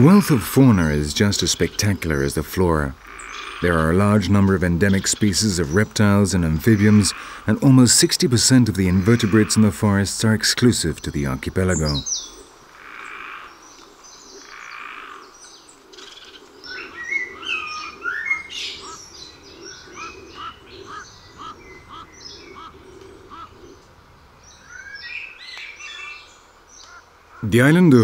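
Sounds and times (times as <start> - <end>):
birds chirping and calling: 0.0 - 28.0.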